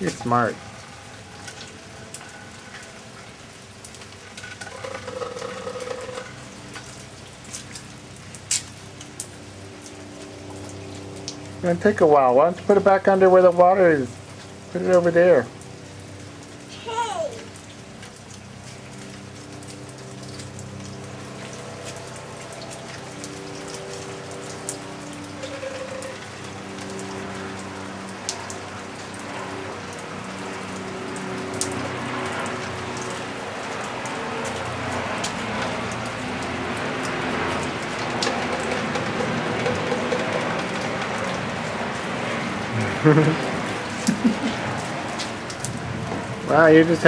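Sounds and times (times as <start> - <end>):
rain pattering: 0.0 - 47.0.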